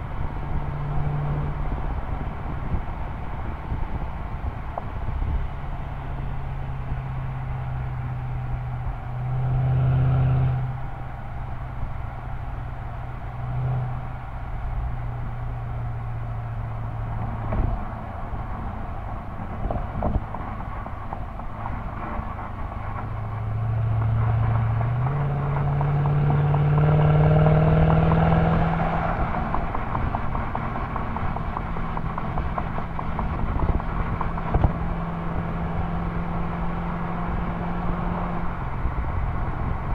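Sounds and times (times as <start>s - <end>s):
car exhaust droning: 0.0s - 39.9s
road and wind noise: 0.0s - 39.9s.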